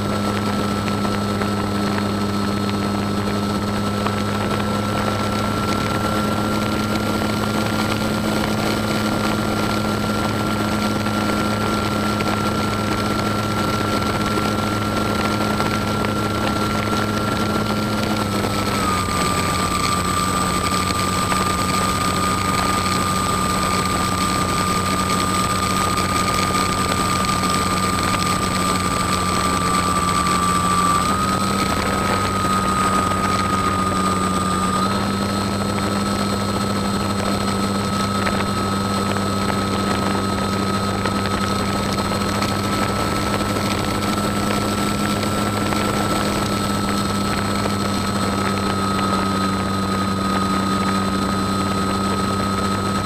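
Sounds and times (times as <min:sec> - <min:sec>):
model plane motor whining: 0:00.0 - 0:53.0.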